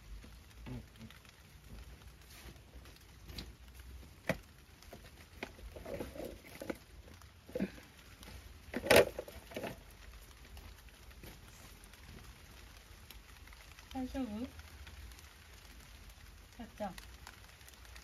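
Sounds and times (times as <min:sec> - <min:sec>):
rain dripping and pattering: 0:00.0 - 0:18.0.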